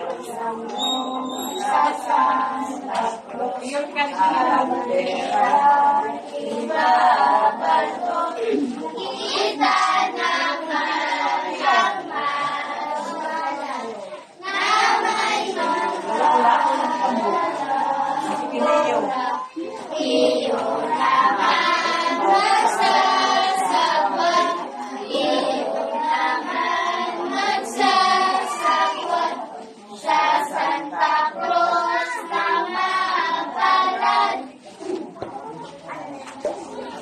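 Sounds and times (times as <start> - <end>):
girls singing in unison: 0.0 - 37.0.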